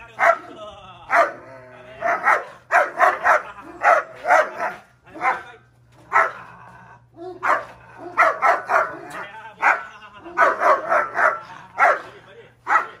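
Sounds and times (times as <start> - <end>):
dog barking loudly: 0.2 - 0.5, 1.1 - 1.4, 2.0 - 6.4, 7.4 - 13.0.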